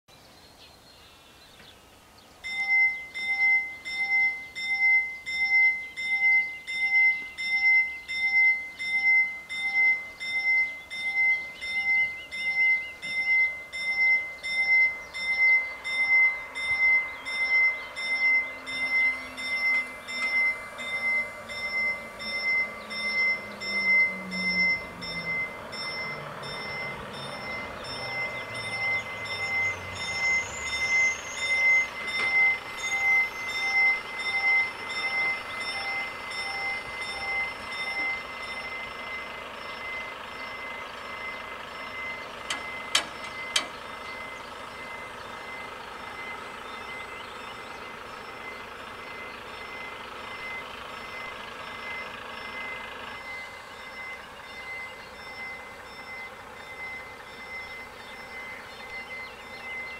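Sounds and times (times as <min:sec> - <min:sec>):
approaching vehicle rumble: 0:00.1 - 0:59.9
level crossing warning bells: 0:02.4 - 0:59.9.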